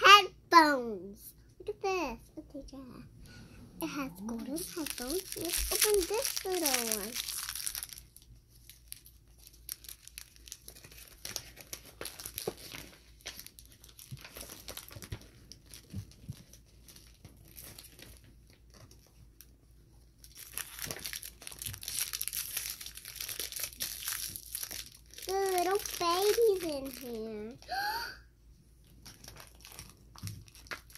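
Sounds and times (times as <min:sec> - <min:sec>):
foil wrapper crinkling: 0:03.8 - 0:19.5, 0:20.1 - 0:27.6, 0:28.9 - 0:30.9.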